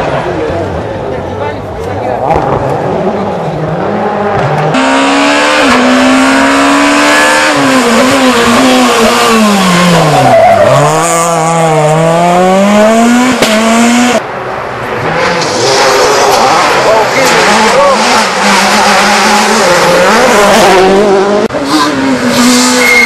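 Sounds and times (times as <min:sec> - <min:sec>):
rally car engine revving: 0:01.9 - 0:14.2, 0:14.8 - 0:23.0.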